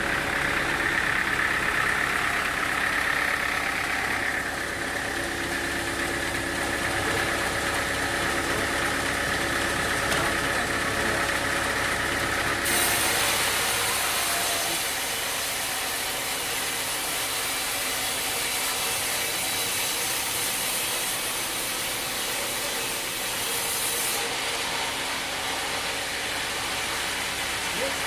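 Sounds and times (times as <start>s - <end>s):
saw cutting through wood: 0.0s - 28.0s.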